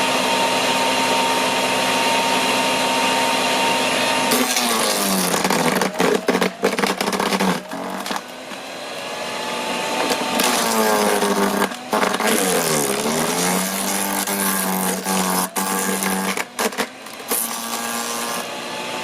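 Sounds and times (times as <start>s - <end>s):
wood chipper motor running: 0.0s - 19.0s.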